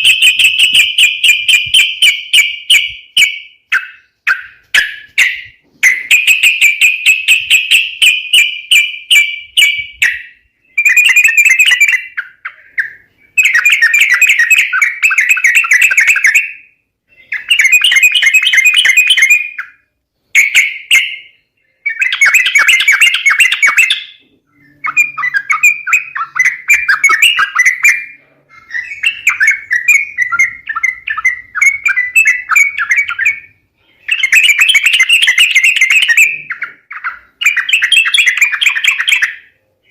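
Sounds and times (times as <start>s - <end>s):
recorded bird chattering calls: 0.0s - 39.9s.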